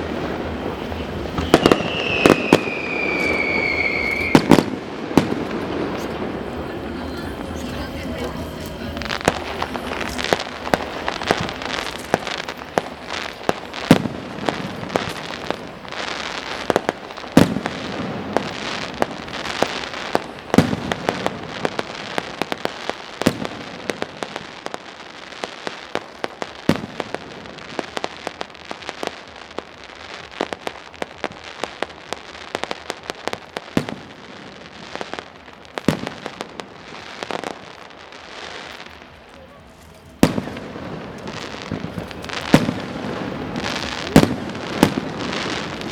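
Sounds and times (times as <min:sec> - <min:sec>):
fireworks bangs: 0:00.0 - 0:45.9
fireworks crackling hiss: 0:00.0 - 0:45.9.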